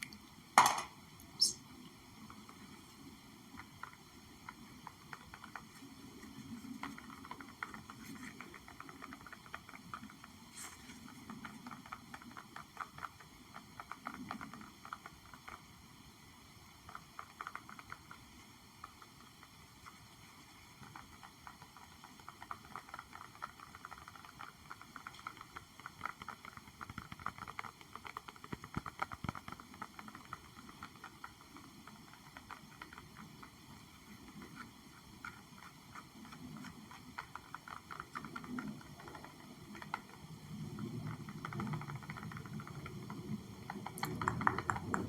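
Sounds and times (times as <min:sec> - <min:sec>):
soft rapid tapping: 0:00.0 - 0:45.0.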